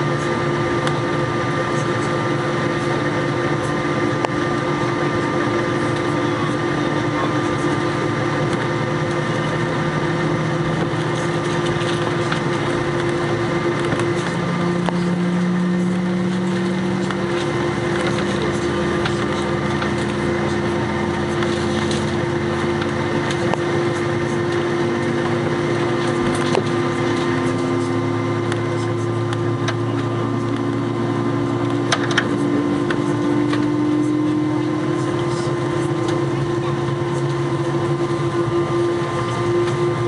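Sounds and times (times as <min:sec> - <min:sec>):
jet engines humming: 0:00.0 - 0:40.0.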